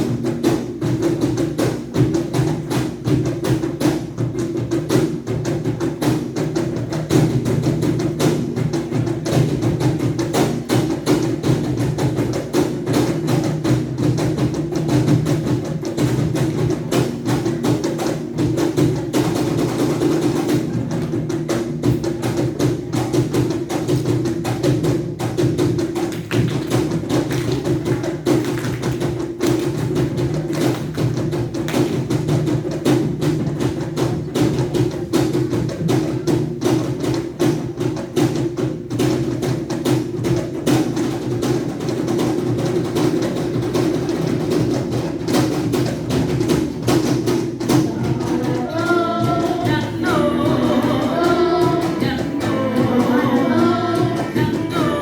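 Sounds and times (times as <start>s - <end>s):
music with rapid percussive tapping: 0.0s - 55.0s.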